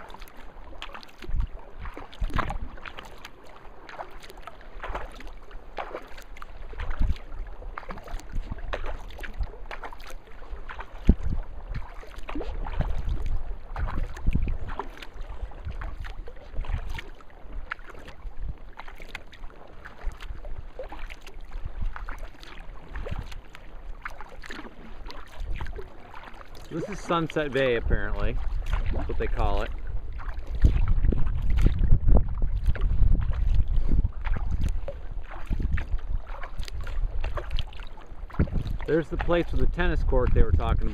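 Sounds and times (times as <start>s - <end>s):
wind rumble on microphone: 0.0s - 3.0s, 6.4s - 18.9s, 19.5s - 26.0s, 26.7s - 40.9s
paddle blades dipping in water: 0.0s - 40.9s
water splashing and dripping: 0.0s - 40.9s.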